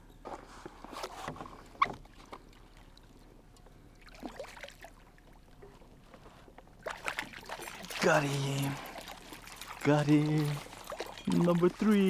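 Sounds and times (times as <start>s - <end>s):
water splashing and trickling: 1.6s - 12.0s.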